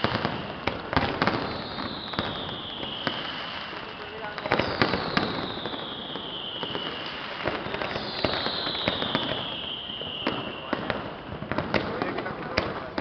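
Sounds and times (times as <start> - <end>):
fireworks crackling and popping: 0.0 - 13.0
whistling firework: 0.0 - 13.0.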